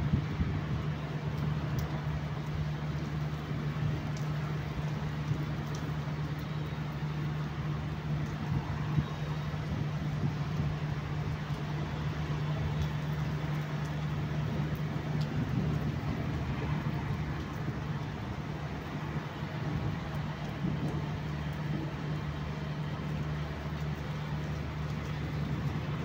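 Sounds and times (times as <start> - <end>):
rain hiss: 0.0 - 26.0
faint drip ticks: 0.3 - 26.0.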